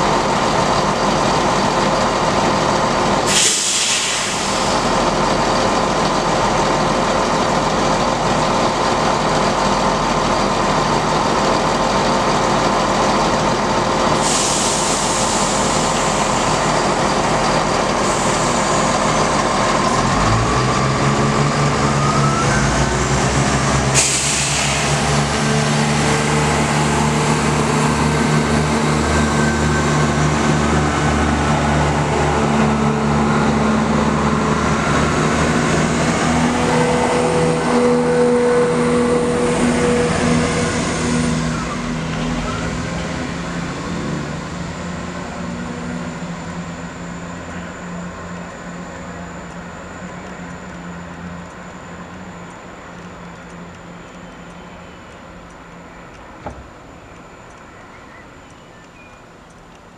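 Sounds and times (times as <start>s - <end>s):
diesel train engines running: 0.0s - 59.9s
rising whine: 9.8s - 59.0s.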